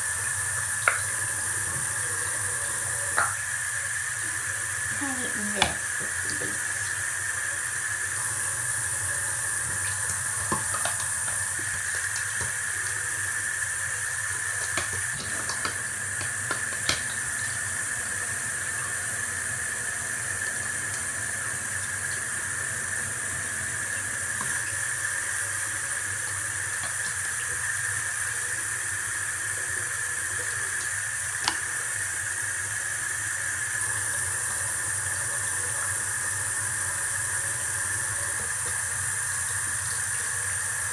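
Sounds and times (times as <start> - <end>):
tap water running into sink: 0.0 - 40.9.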